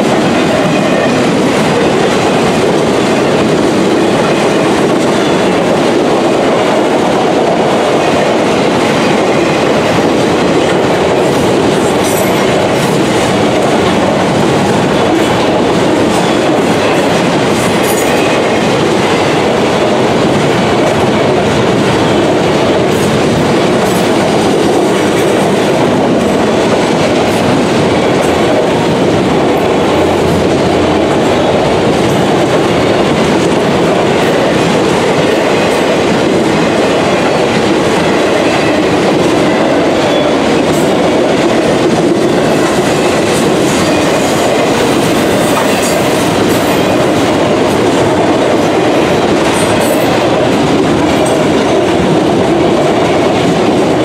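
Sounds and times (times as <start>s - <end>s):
freight train rumbling and rattling: 0.0s - 54.0s.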